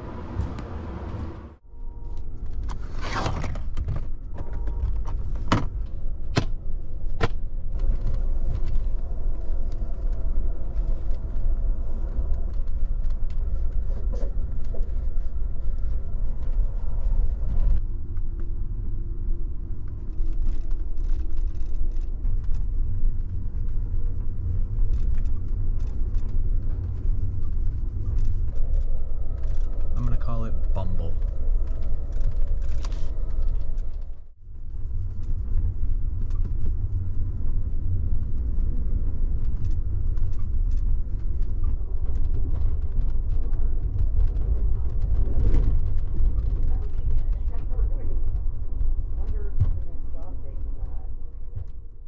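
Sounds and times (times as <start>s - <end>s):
train rumble: 0.0s - 52.0s.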